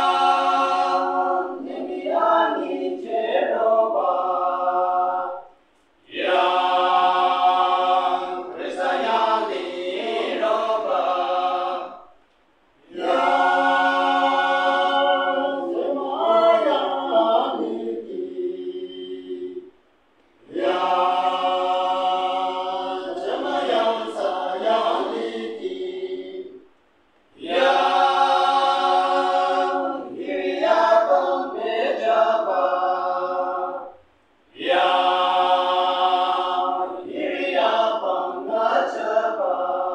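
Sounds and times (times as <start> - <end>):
men's choir singing unaccompanied: 0.0 - 12.2, 12.8 - 19.7, 20.4 - 26.7, 27.4 - 39.9.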